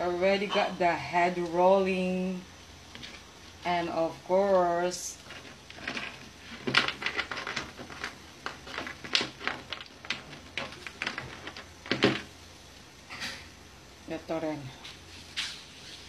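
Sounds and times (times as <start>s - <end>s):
broth simmering: 0.8s - 14.4s.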